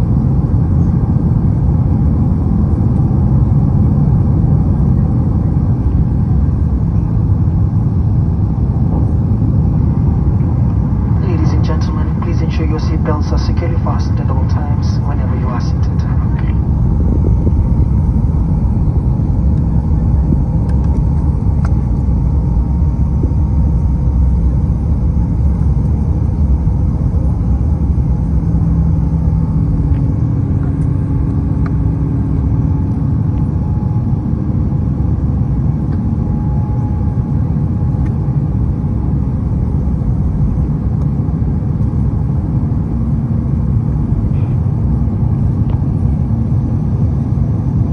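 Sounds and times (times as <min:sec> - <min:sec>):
jet engine rumble in cabin: 0:00.0 - 0:47.9.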